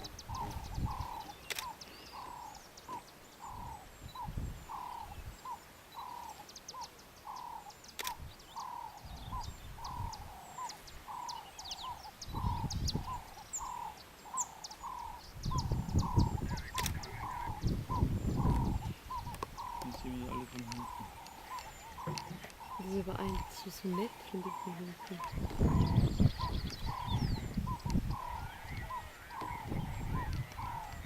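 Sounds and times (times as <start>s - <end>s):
high chirps and ticks: 0.0s - 31.0s.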